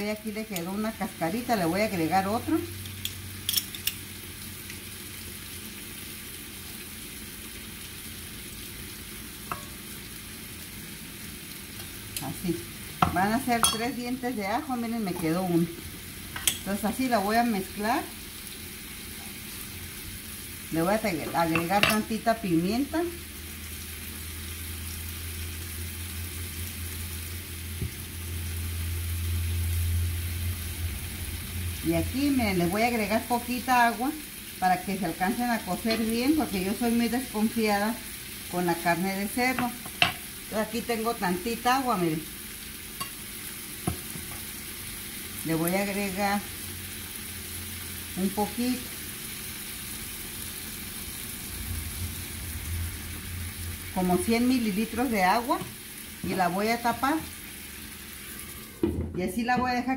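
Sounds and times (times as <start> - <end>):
meat sizzling in a frying pan: 0.0 - 58.9.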